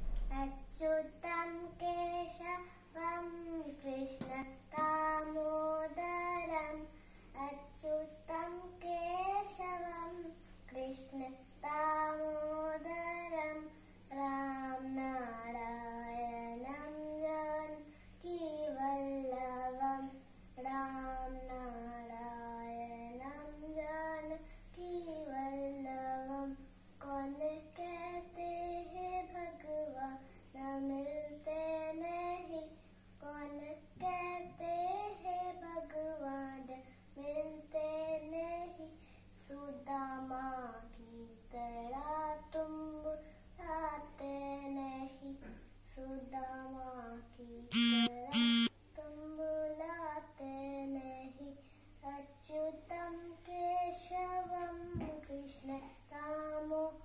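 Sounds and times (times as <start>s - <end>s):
girl singing unaccompanied: 0.0s - 57.0s.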